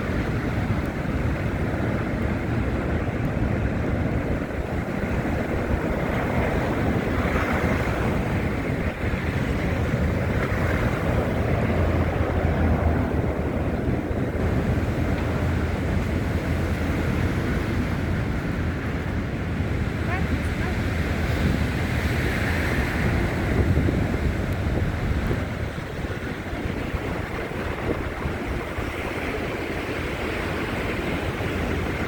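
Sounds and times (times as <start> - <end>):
city traffic rumble: 0.0 - 32.0
wind on microphone: 0.0 - 32.0.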